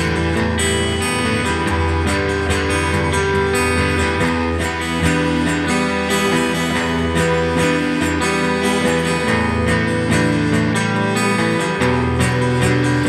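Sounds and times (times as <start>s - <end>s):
slow instrumental rock guitars: 0.0s - 13.0s.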